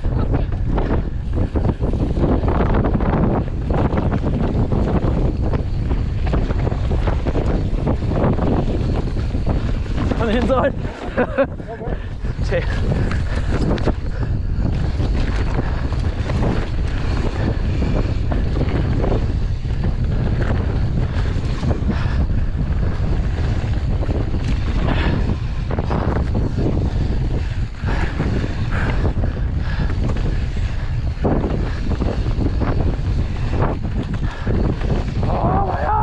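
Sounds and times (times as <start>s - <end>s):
bike knocking and rattling: 0.0s - 36.0s
wind buffeting microphone: 0.0s - 36.0s
tyres running over loose dirt: 0.6s - 36.0s.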